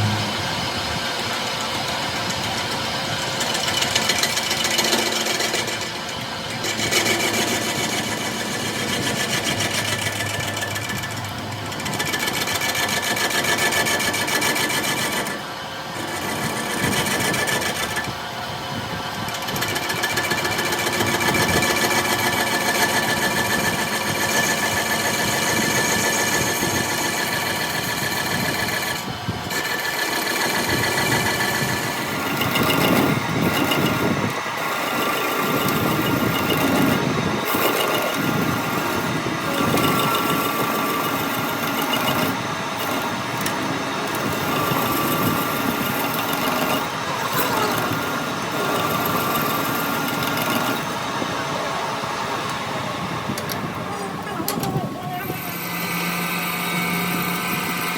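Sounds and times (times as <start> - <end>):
power tool rattling on metal: 1.0 - 57.9.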